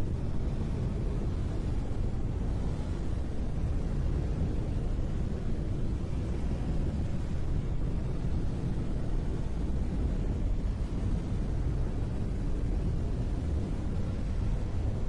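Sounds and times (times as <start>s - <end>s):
brown noise: 0.0s - 15.0s.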